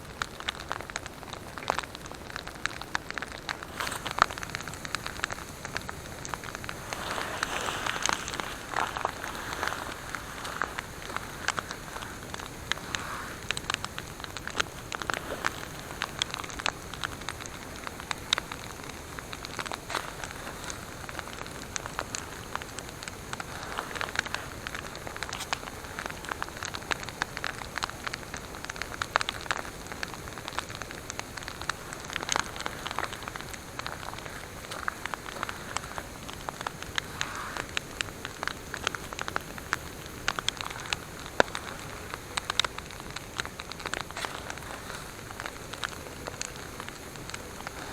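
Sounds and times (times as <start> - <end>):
campfire crackling and popping: 0.0 - 47.9
steady hiss: 0.0 - 47.9.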